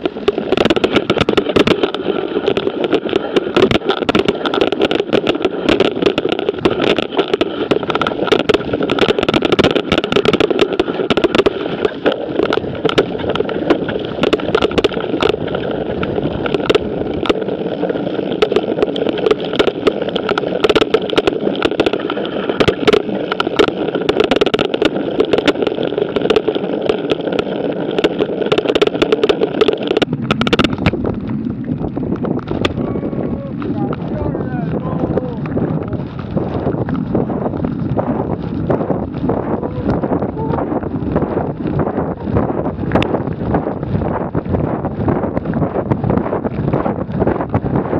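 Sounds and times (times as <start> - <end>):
bike rattling clicks: 0.0 - 32.8, 33.5 - 47.9
tyre and wind rush: 0.0 - 47.9.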